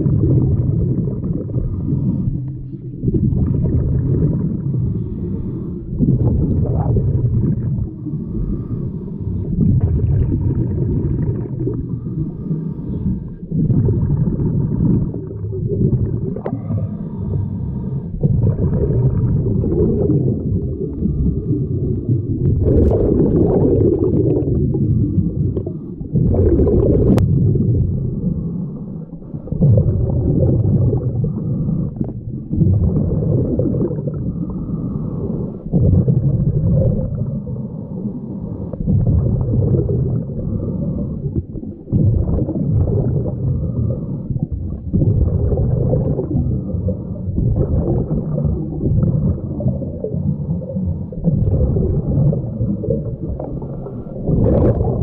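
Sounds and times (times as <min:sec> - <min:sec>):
underwater regulator bubbling: 0:00.0 - 0:55.0.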